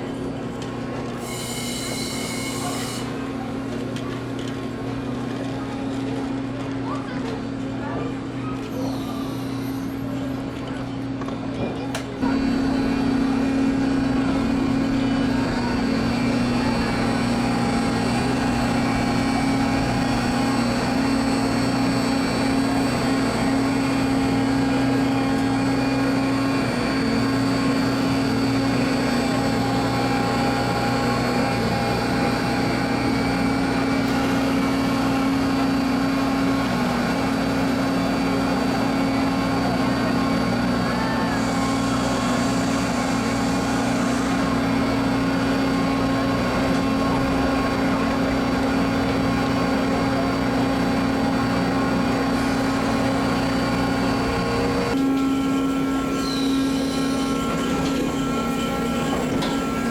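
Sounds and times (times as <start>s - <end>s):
large engine droning: 0.0s - 59.9s.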